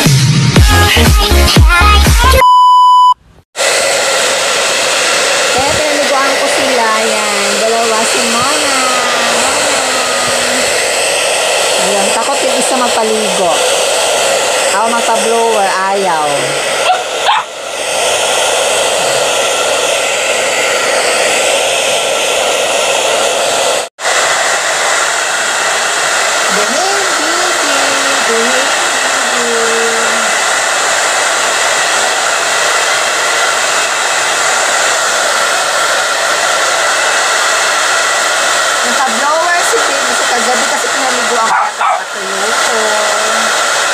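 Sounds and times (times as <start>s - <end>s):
hair dryer blowing: 3.6s - 43.9s.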